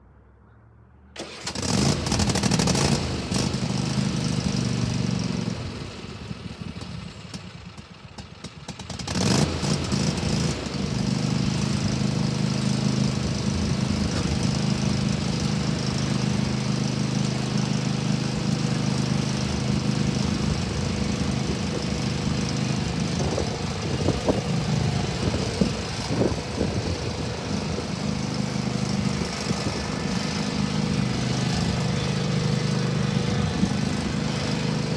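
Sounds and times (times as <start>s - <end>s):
riding mower engine running: 1.2s - 34.9s.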